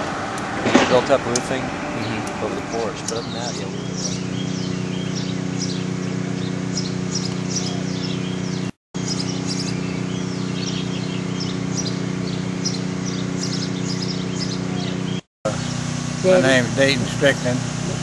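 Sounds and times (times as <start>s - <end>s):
steady low hum: 0.0s - 18.0s
birds chirping and calling: 0.7s - 15.9s.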